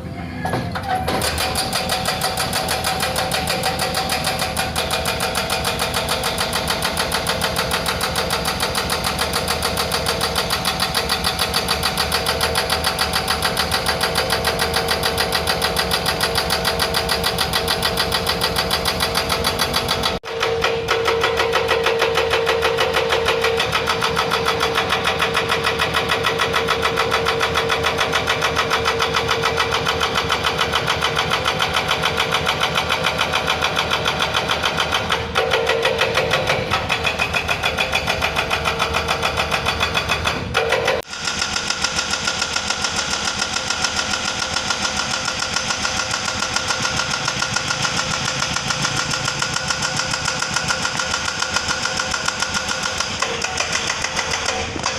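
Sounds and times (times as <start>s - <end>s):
excavator diesel engine running: 0.0s - 54.9s
hydraulic breaker hammering: 0.4s - 54.9s.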